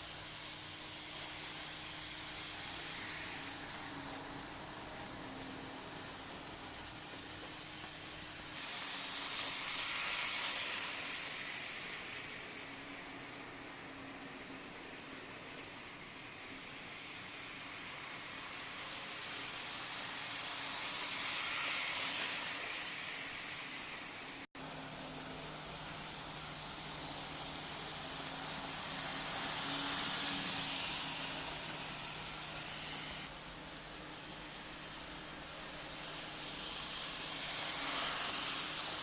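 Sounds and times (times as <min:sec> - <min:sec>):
faint motor hum: 0:00.0 - 0:39.0
model train wheels on rails: 0:00.0 - 0:39.0.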